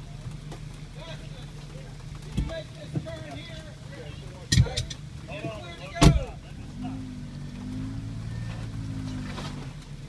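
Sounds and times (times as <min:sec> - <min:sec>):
off-road vehicle engine humming: 0:00.0 - 0:10.0.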